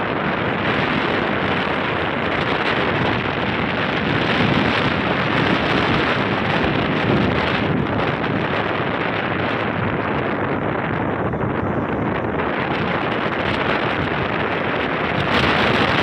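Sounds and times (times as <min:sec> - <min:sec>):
motorcycle running: 0:00.0 - 0:16.0
tyre noise on road: 0:00.0 - 0:16.0
wind buffeting microphone: 0:00.0 - 0:16.0.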